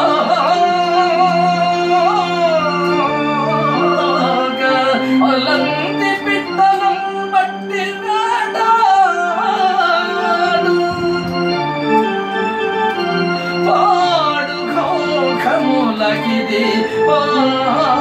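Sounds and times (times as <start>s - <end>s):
electronic keyboard chords: 0.0s - 18.0s
man singing melismatic melody: 0.0s - 18.0s.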